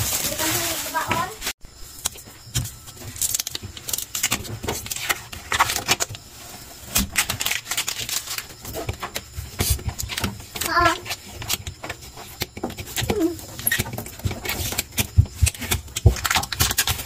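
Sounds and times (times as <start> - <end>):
plastic film crinkling: 0.0 - 17.0.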